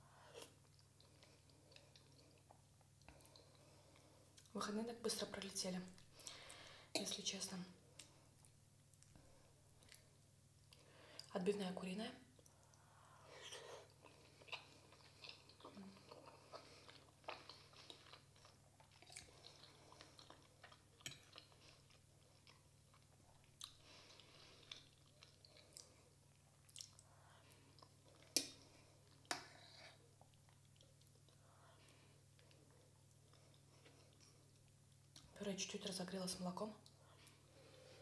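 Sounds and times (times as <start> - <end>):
close chewing and mouth sounds: 0.3 - 4.6, 7.8 - 11.3, 12.3 - 35.4.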